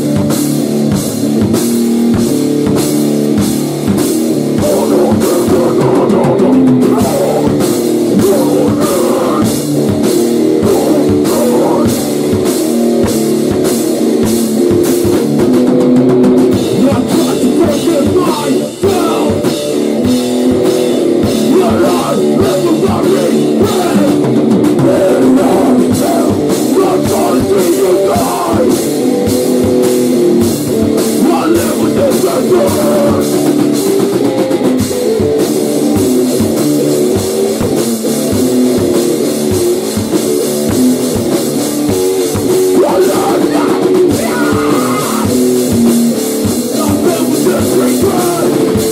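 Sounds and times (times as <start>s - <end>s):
distorted electric guitar: 0.0s - 48.9s
drum kit: 0.0s - 48.9s.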